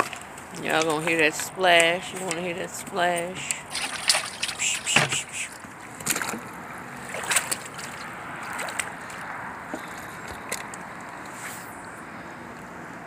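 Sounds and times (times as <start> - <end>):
water splashing: 0.0 - 10.7.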